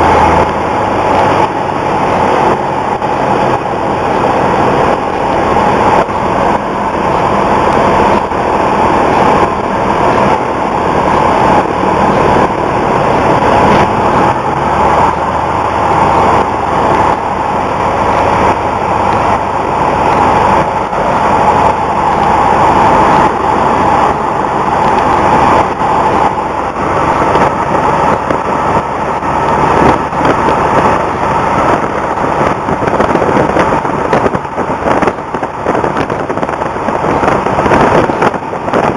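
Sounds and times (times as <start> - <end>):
airplane engine drone in cabin: 0.0 - 38.9.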